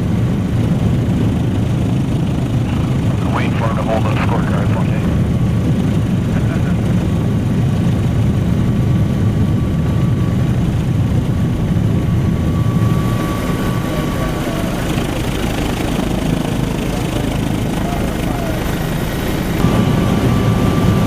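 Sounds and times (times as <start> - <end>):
helicopter rumbling: 0.0 - 21.0.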